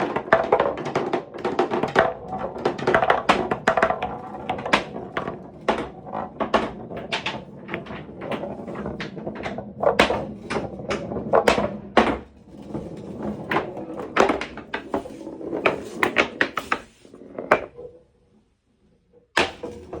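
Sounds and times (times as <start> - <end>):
marbles rolling and clacking: 0.0 - 17.9.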